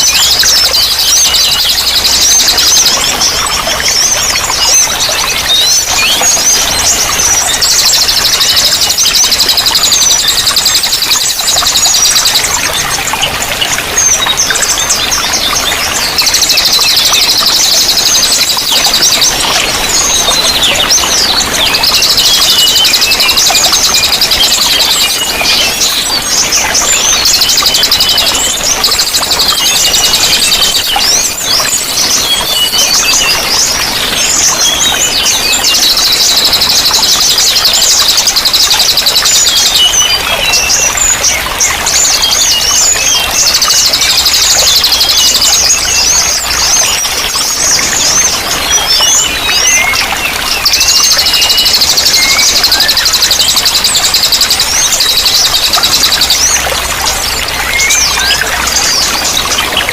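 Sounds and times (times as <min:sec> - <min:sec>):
running water: 0:00.0 - 0:59.9
songbirds singing: 0:00.0 - 0:59.9.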